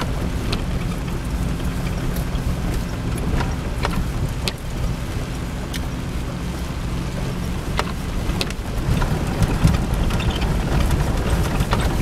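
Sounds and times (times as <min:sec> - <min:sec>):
car engine running: 0:00.0 - 0:12.0
low rumble: 0:00.0 - 0:12.0.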